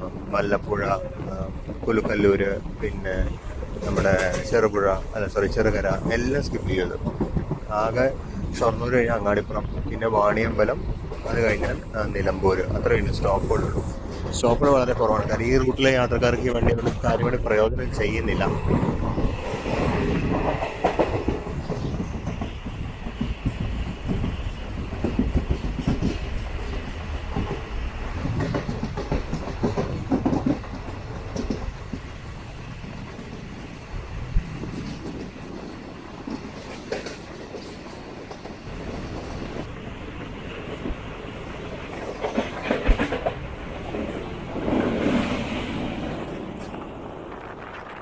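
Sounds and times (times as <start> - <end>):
wheels clicking over rail joints: 0.0 - 14.5, 18.2 - 48.0
train rumbling along track: 0.0 - 48.0.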